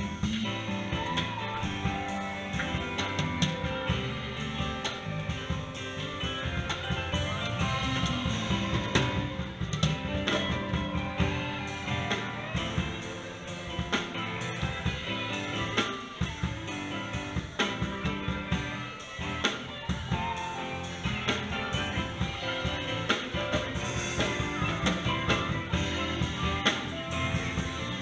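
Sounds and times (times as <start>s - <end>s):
live band playing instrumental: 0.0s - 28.0s.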